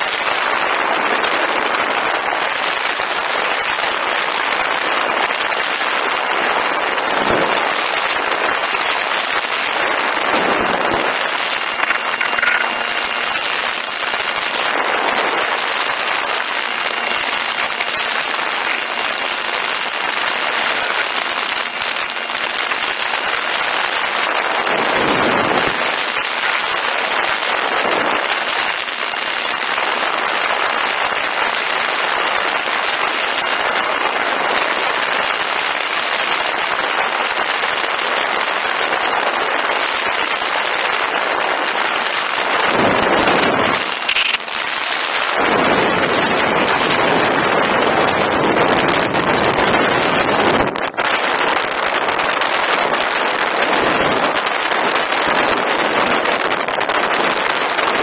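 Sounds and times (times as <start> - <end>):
high-pitched motor whine: 0.0 - 38.8, 39.4 - 51.3
rushing wind and propeller: 0.0 - 58.0.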